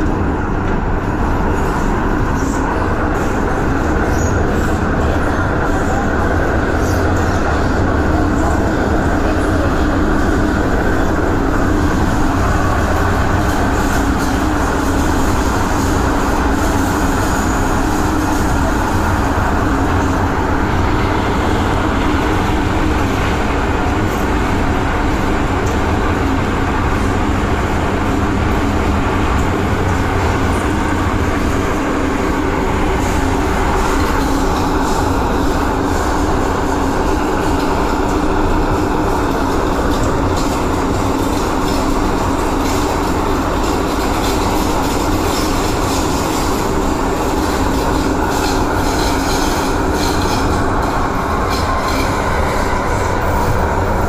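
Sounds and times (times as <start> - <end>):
train rail rumble: 0.0 - 54.0.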